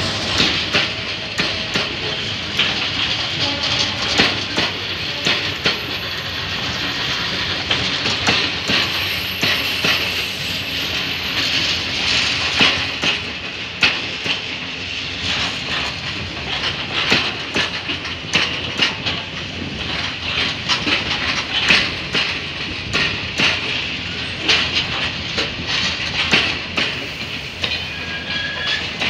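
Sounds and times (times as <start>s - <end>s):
train wheels hissing on rails: 0.0s - 29.0s
wheels clacking over rail joints: 0.0s - 29.0s.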